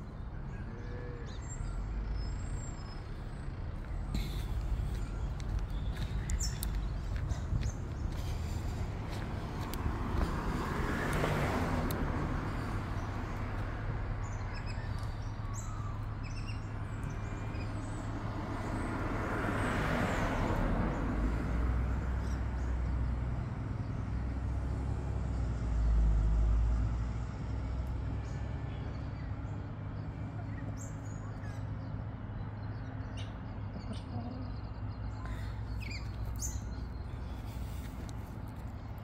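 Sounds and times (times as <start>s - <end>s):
low engine rumble: 0.0s - 39.0s
vehicles passing: 0.0s - 39.0s.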